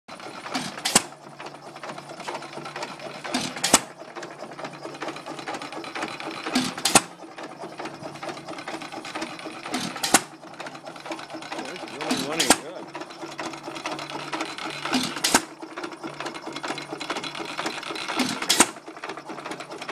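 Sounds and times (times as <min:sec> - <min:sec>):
engine mechanical clatter: 0:00.1 - 0:19.9.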